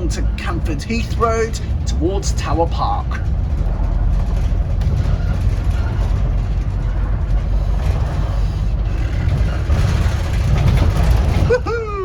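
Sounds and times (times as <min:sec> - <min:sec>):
bus diesel engine droning: 0:00.0 - 0:12.0
road noise: 0:00.0 - 0:12.0.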